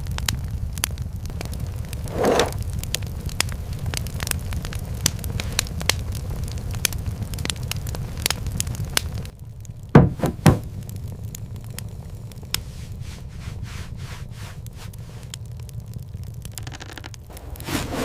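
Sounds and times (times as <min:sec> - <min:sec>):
crackling fire with pops: 0:00.0 - 0:18.0
steady low rumble: 0:00.0 - 0:18.0.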